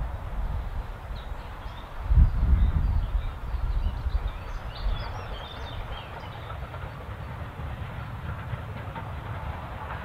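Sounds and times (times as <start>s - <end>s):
distant steam train rumble: 0.0s - 10.0s.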